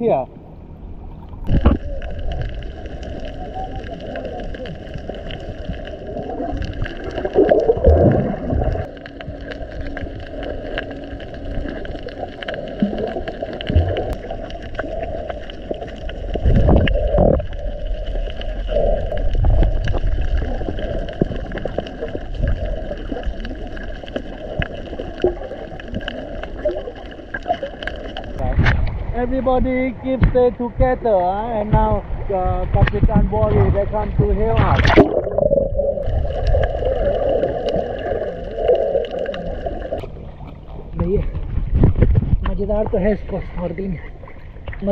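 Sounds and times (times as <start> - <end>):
water sloshing and gurgling underwater: 0.0 - 44.9.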